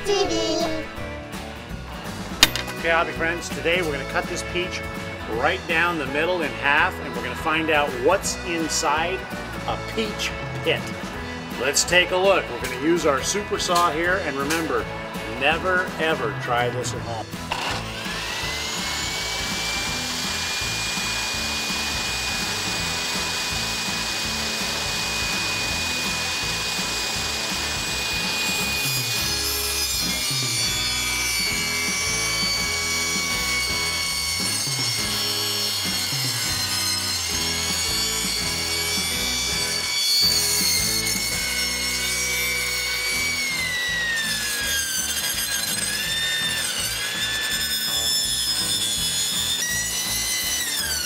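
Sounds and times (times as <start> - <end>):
table saw motor whine: 2.2 - 51.0.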